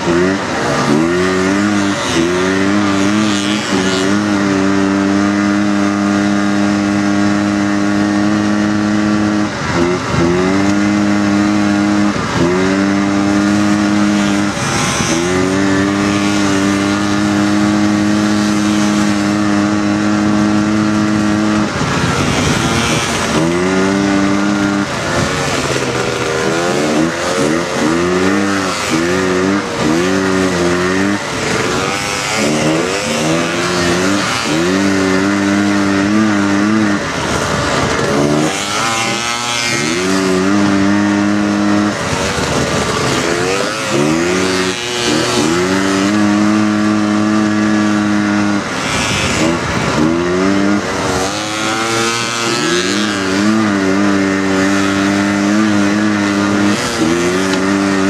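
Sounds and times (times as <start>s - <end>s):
off-road buggy engine revving: 0.0s - 58.0s.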